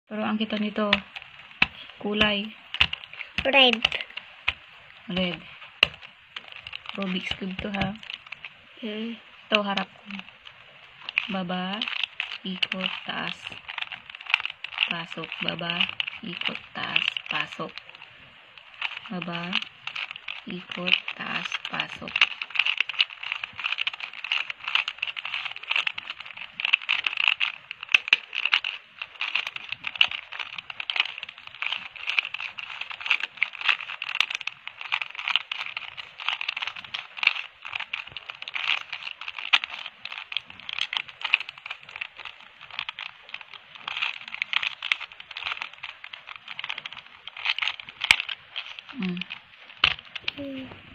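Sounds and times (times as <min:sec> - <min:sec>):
puzzle cube plastic clicks: 0:00.1 - 0:50.9.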